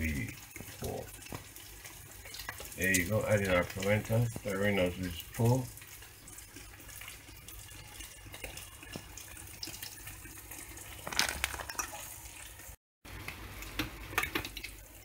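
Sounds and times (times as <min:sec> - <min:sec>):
boiling water bubbling: 0:00.0 - 0:15.0.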